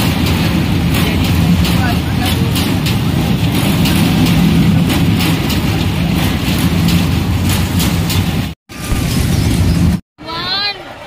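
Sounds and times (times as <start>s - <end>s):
carousel ride mechanical rumble: 0.0s - 10.0s.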